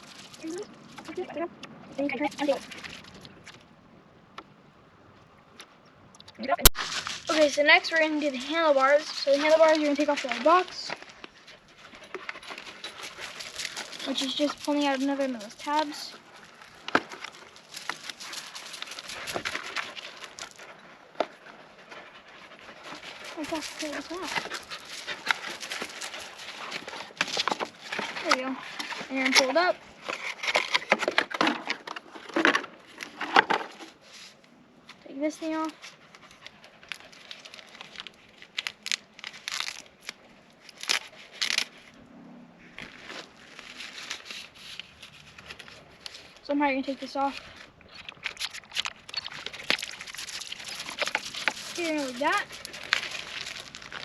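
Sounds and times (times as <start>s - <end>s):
packaging crinkling and tearing: 0.0s - 1.3s, 6.6s - 34.3s, 35.6s - 42.0s, 42.8s - 54.0s
cardboard rustling and crackling: 6.7s - 34.4s, 35.2s - 42.0s, 42.7s - 54.0s.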